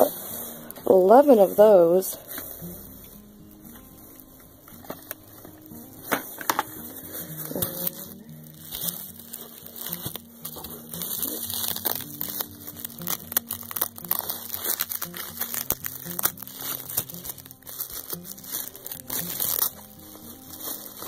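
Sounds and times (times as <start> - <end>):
bubble wrap crinkling: 0.0 - 21.0
quiet background music: 0.0 - 21.0.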